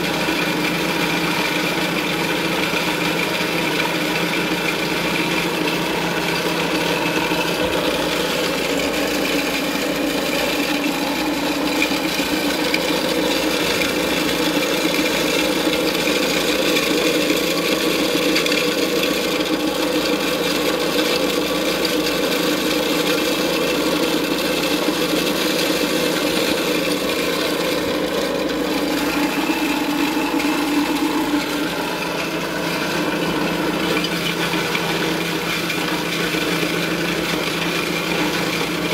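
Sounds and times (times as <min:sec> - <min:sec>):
electric grinder grinding corn: 0:00.0 - 0:38.9.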